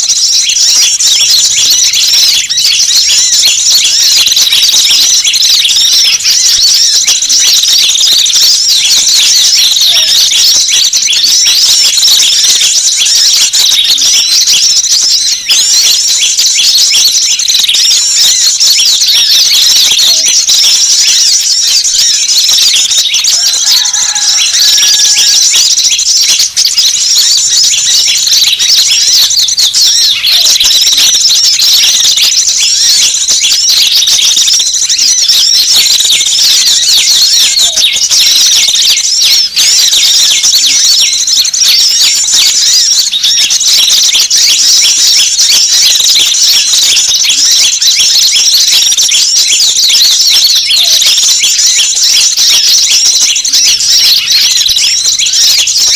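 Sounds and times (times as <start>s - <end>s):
small birds chirping and twittering: 0.0s - 55.9s.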